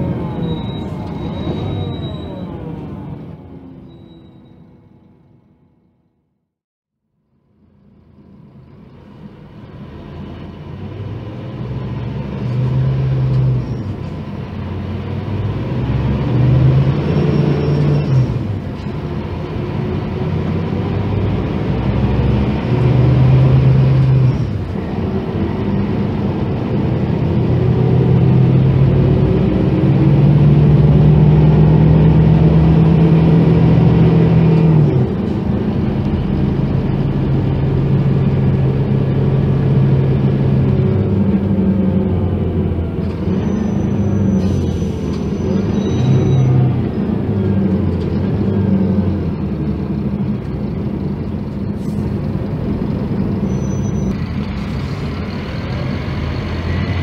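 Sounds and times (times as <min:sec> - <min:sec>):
diesel bus engine running: 0:00.0 - 0:06.0, 0:07.2 - 0:57.0.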